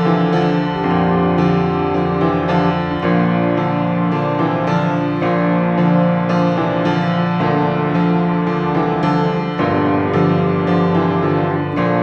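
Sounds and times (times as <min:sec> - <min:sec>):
sustained keyboard music: 0:00.0 - 0:12.0.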